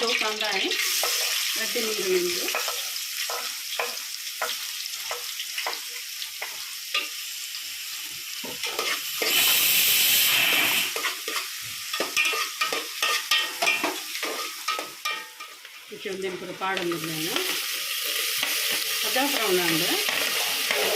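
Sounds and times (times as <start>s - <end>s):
onions sizzling in a pan: 0.0s - 20.9s
spatula scraping and stirring: 0.8s - 7.1s, 8.4s - 20.9s.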